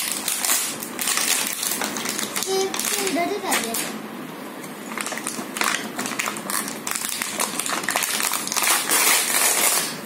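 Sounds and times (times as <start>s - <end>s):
plastic packaging crinkling: 0.0s - 3.9s, 4.8s - 10.0s.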